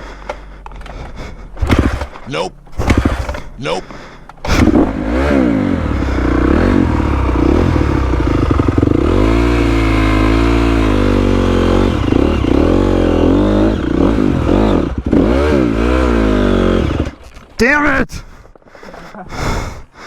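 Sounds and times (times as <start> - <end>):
motorcycle engine revving: 1.0 - 17.6.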